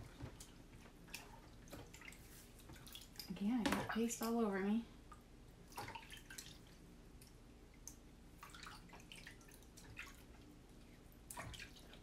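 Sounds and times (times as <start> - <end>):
small water splashes and drips: 0.0 - 4.4, 5.0 - 12.0.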